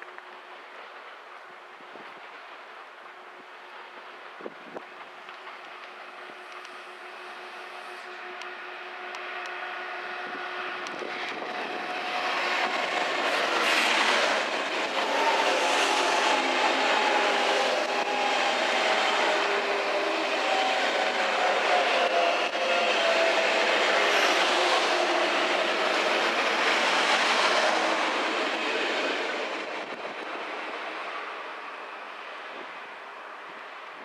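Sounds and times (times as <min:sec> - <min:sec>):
train running noise: 0:00.0 - 0:34.0
train whining tones: 0:04.4 - 0:33.8.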